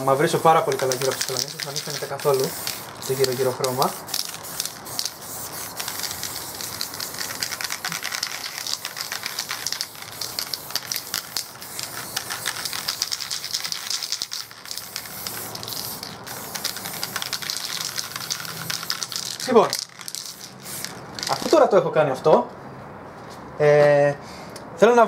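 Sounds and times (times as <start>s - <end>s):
spray paint can hissing: 0.0s - 21.6s
spray can rattling: 0.0s - 21.8s.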